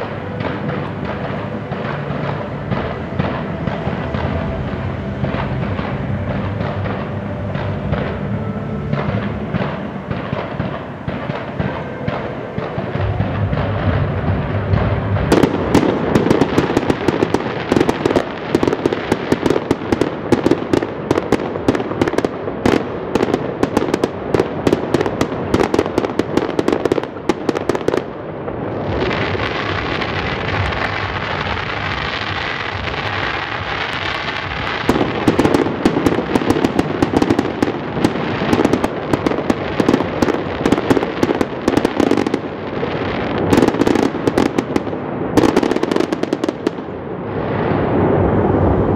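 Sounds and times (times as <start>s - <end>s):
fireworks bangs and pops: 0.0s - 48.9s
fireworks hiss: 0.0s - 48.9s.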